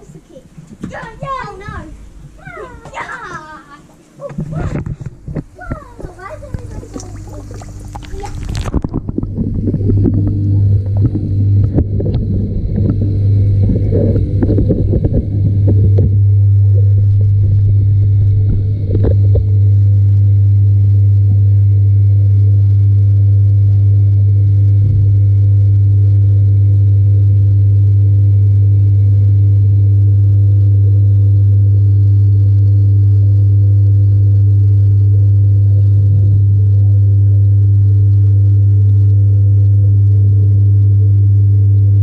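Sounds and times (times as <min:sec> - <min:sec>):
low electrical pump hum: 0:00.0 - 0:42.0.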